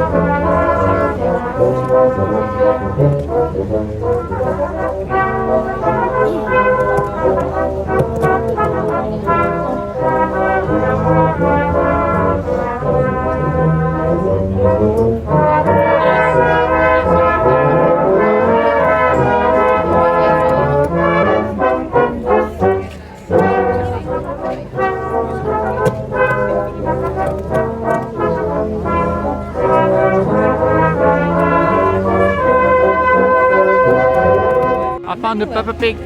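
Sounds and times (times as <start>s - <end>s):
brass band playing: 0.0s - 36.0s.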